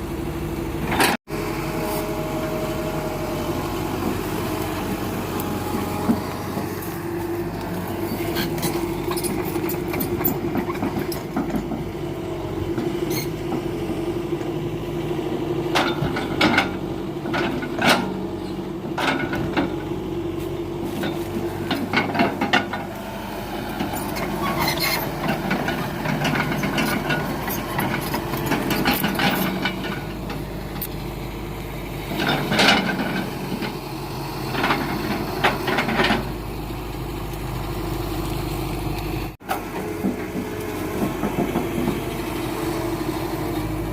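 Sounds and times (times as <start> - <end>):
diesel machinery running: 0.0 - 43.9.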